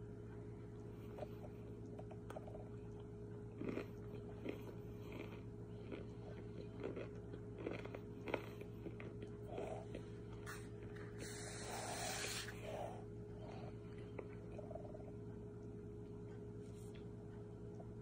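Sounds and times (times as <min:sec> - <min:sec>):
crunching and chewing: 0:00.0 - 0:18.0
low hum: 0:00.0 - 0:18.0.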